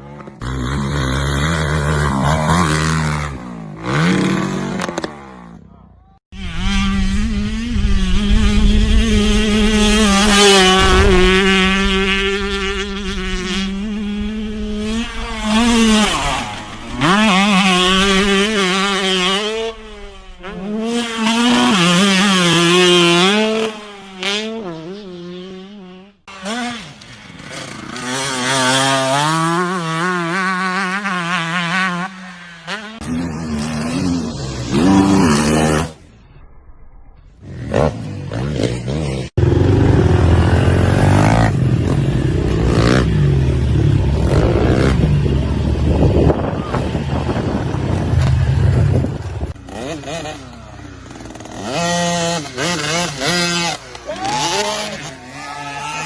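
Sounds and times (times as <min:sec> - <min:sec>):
motorcycle engines revving: 0:00.0 - 0:36.2, 0:37.3 - 0:56.0.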